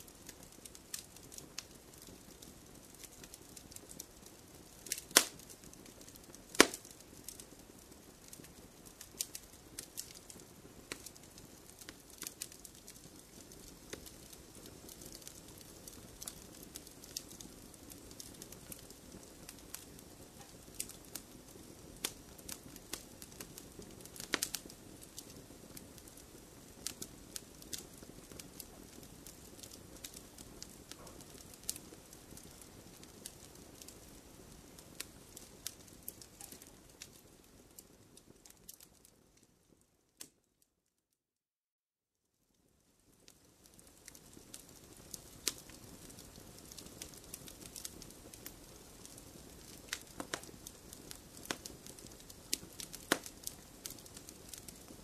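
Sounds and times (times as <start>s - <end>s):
wood fire crackling: 0.0s - 40.6s, 42.6s - 55.0s
hiss of flames: 0.1s - 38.6s, 43.4s - 55.0s.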